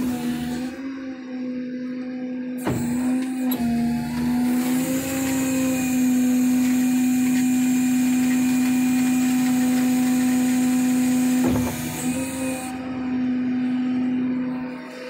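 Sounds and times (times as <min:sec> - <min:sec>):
tow truck engine whining hum: 0:00.0 - 0:15.0.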